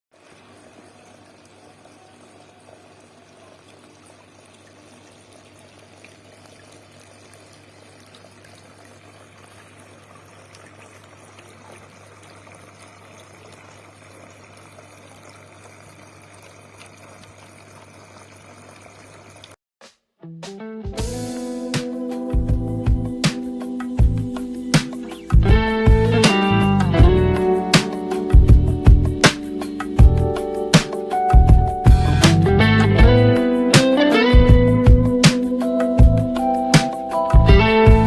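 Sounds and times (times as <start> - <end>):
water trickling and splashing: 0.1 - 19.6, 21.6 - 38.0.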